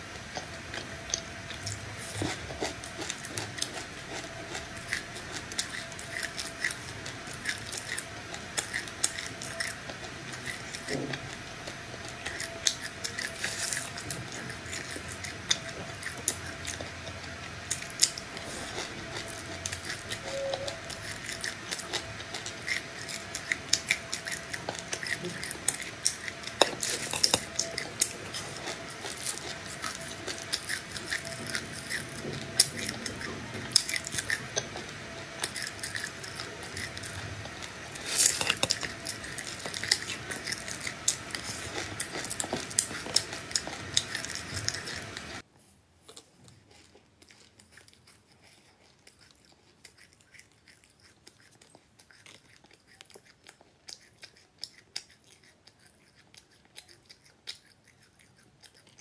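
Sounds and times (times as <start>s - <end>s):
chewing crunchy seeds: 0.0s - 45.4s, 46.0s - 59.0s
faint steady hum: 0.0s - 49.9s.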